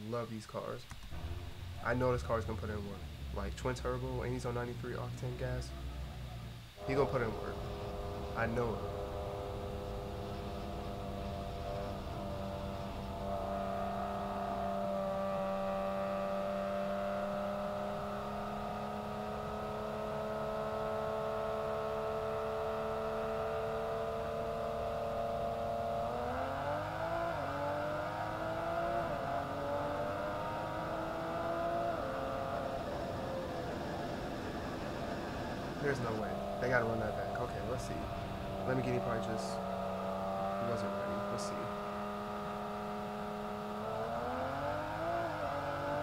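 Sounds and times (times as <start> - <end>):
sports car engine accelerating: 0.6 - 46.0.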